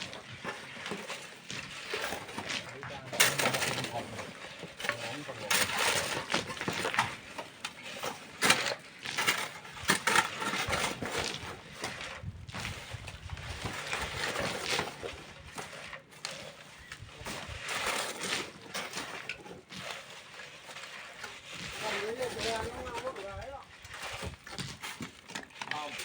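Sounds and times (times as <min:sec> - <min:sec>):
hand tools scraping sand and stone: 0:00.0 - 0:26.0.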